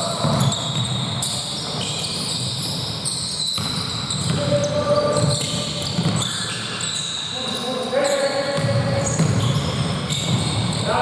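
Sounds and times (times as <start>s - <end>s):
basketball bouncing on court: 0.0s - 7.0s, 8.4s - 11.0s
shoe squeaks: 0.0s - 11.0s.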